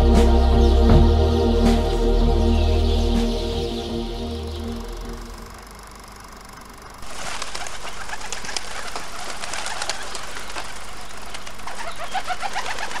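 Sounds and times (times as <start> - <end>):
flock of birds chirping: 0.0 - 5.8, 6.9 - 13.0.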